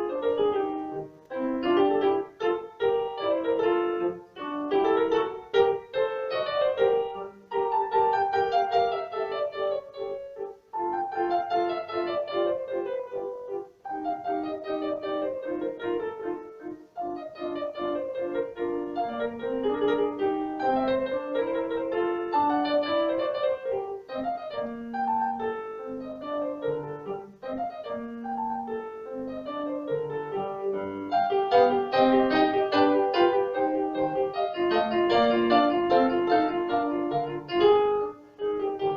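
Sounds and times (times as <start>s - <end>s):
piano melody: 0.0s - 38.9s.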